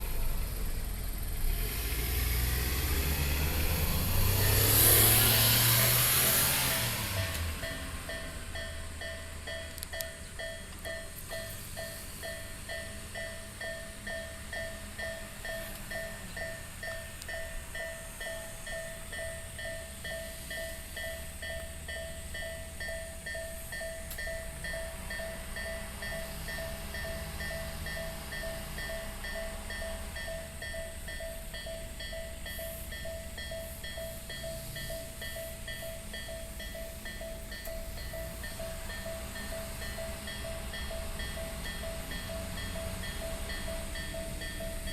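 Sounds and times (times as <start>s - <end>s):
tyres rushing on road: 0.0s - 44.9s
vehicle engine hum: 0.0s - 44.9s
level crossing alarm dinging: 4.2s - 44.9s.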